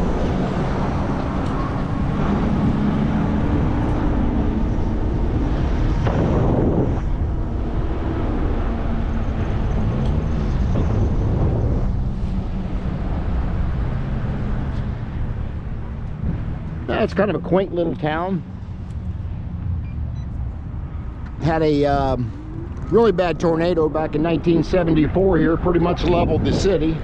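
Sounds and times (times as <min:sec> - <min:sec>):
bike tyres and motor humming: 0:00.0 - 0:27.0
wind rushing over microphone: 0:00.0 - 0:27.0.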